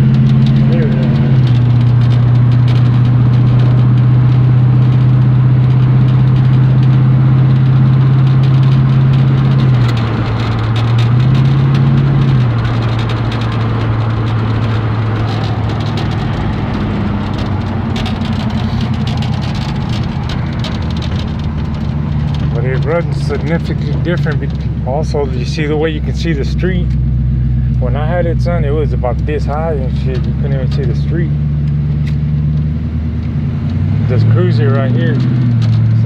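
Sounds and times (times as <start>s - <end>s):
road noise: 0.0s - 36.0s
truck engine droning: 0.0s - 36.0s.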